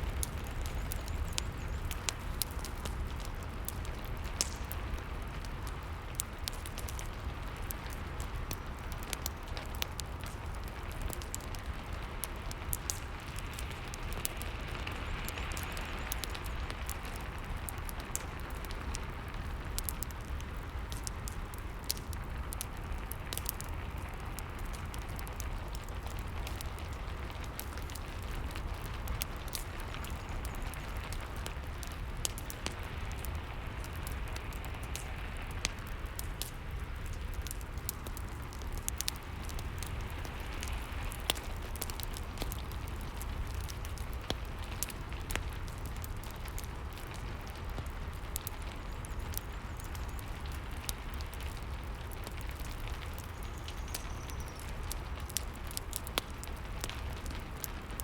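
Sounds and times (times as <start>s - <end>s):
fire crackling and popping: 0.0s - 58.0s
steady rain: 0.0s - 58.0s.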